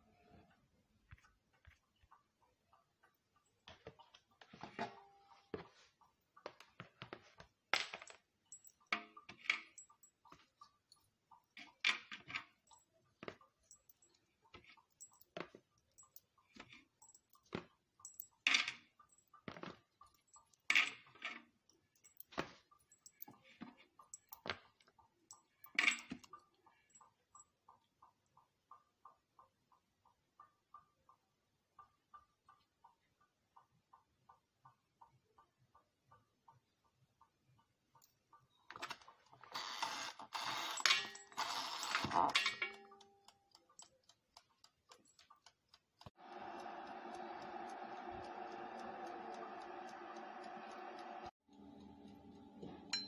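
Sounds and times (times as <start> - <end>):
faint steady ticking: 1.0 - 53.0.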